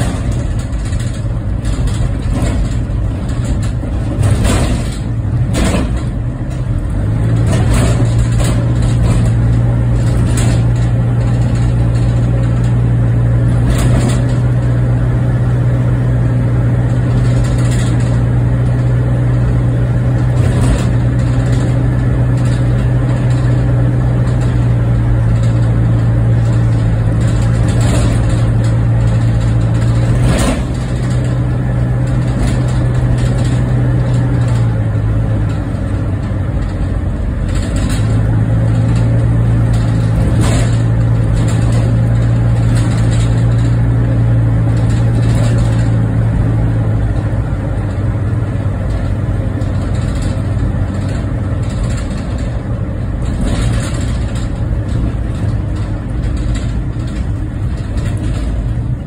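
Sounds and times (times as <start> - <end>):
car engine and road rumble: 0.0 - 59.0
knocks from road bumps: 0.0 - 59.0.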